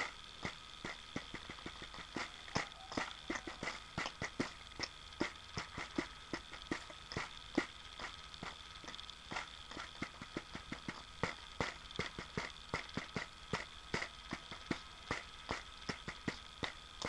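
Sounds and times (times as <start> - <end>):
beatboxing clicks and pops: 0.0 - 17.0.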